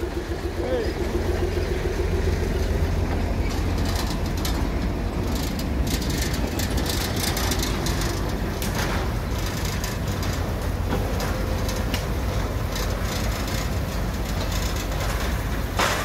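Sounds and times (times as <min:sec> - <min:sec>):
diesel locomotive engine: 0:00.0 - 0:16.0
steady low rumble: 0:00.0 - 0:16.0
train wheels rattling on track: 0:00.0 - 0:16.0.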